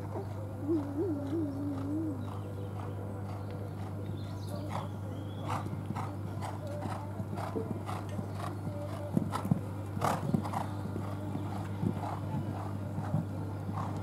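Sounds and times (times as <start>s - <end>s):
horse hoofbeats on sand: 1.8s - 14.0s.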